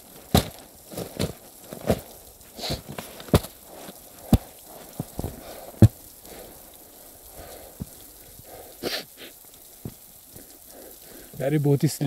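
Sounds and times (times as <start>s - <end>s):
footsteps crunching icy snow: 0.0s - 11.5s.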